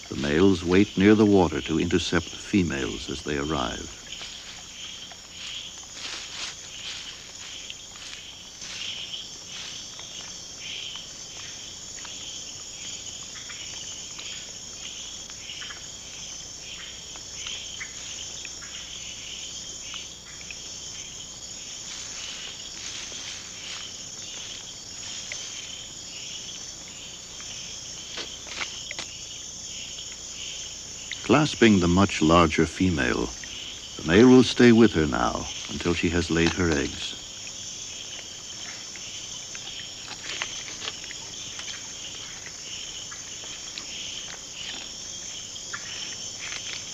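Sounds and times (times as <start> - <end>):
high-pitched insect trilling: 0.0 - 46.9
short insect chirps: 0.0 - 46.9.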